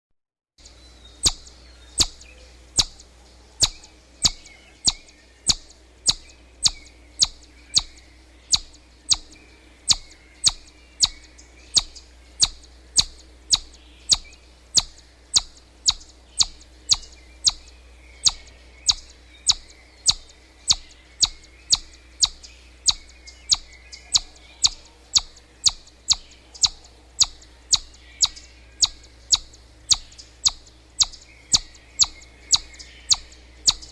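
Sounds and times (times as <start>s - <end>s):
chipmunk chipping: 0.6s - 33.9s
faint birdsong: 0.6s - 33.9s
low steady hum: 0.6s - 33.9s.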